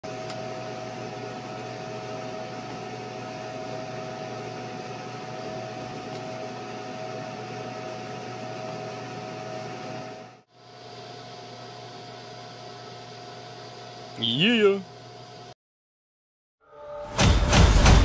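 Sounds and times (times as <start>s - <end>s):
extraction fan whirring: 0.1s - 15.5s.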